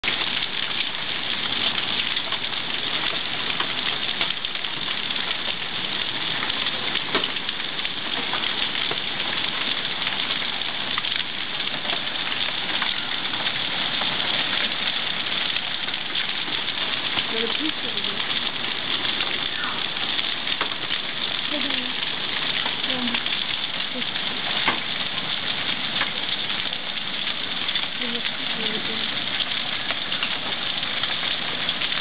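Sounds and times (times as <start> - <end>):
heavy rain on ground: 0.0 - 32.0.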